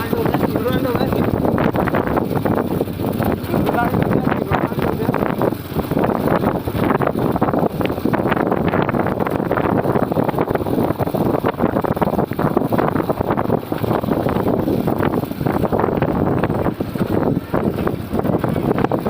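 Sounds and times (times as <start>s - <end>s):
motorcycle rumble: 0.0s - 19.0s
wind buffeting microphone: 0.0s - 19.0s.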